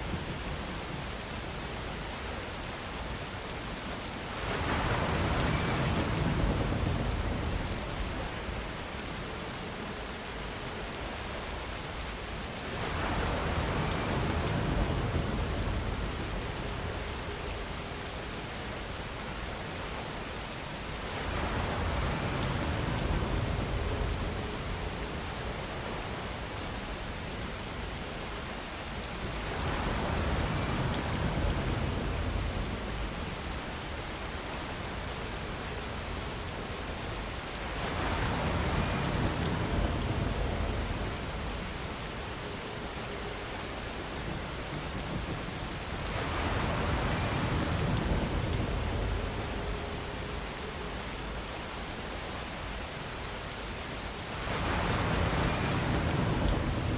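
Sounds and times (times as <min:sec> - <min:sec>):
heavy rain: 0:00.0 - 0:56.9
wind: 0:00.0 - 0:56.9.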